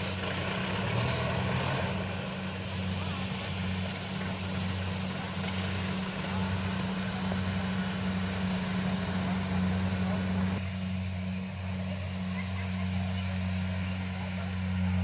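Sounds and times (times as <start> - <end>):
diesel engine droning: 0.0 - 15.0
rushing machinery noise: 0.0 - 15.0.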